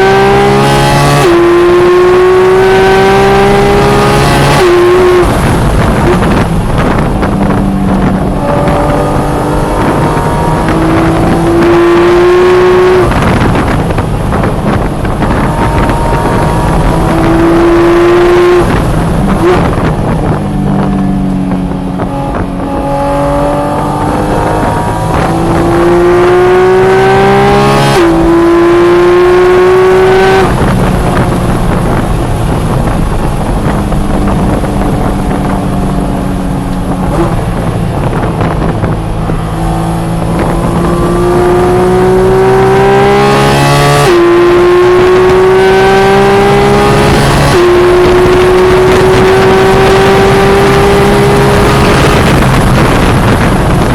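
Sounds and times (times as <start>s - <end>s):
sports car engine revving: 0.0s - 53.9s.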